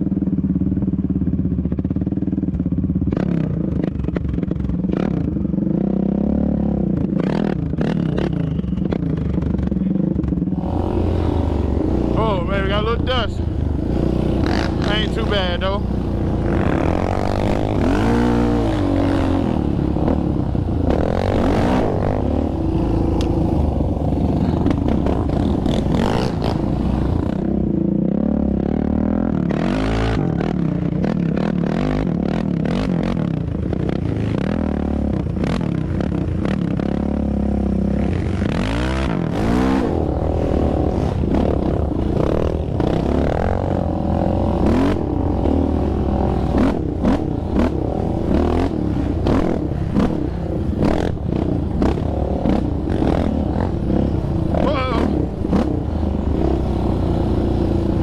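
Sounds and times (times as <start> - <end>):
quad engine revving: 9.8 - 58.0.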